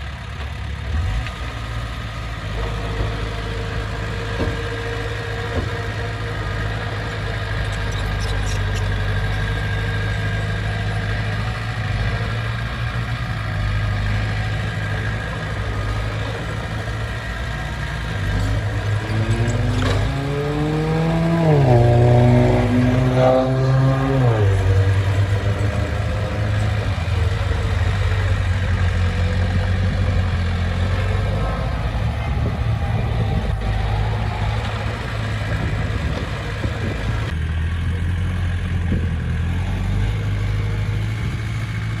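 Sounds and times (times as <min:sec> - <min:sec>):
diesel engine running and revving: 0:00.0 - 0:42.0.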